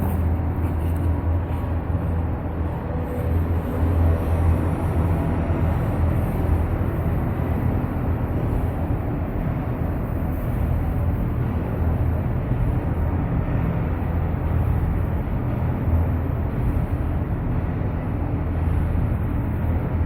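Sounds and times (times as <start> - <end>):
ice rink low rumble: 0.0 - 20.0.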